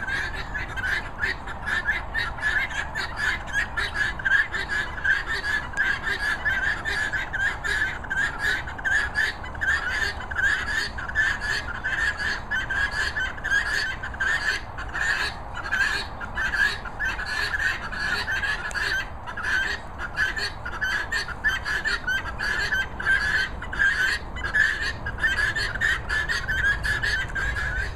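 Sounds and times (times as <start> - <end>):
birds chattering: 0.0 - 27.9.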